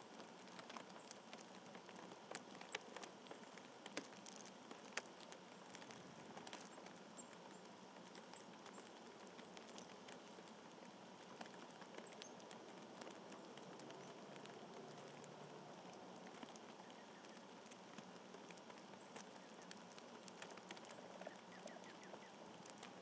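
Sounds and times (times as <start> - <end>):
birds pecking at seed: 0.0 - 23.0.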